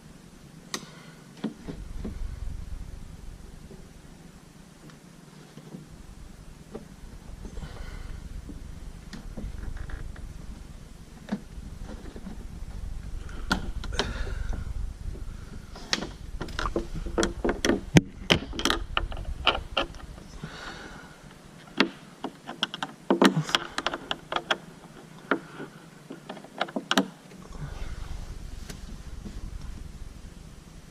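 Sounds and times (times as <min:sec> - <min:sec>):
low steady rumble: 0:00.0 - 0:26.2, 0:27.3 - 0:30.9.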